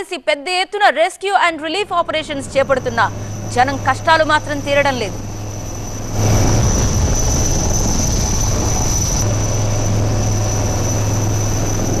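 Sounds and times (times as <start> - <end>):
helicopter running: 1.4 - 12.0.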